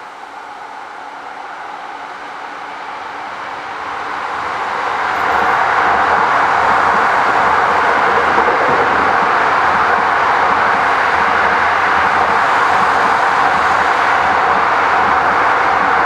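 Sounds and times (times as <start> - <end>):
freight train wheels rolling: 1.6 - 16.0.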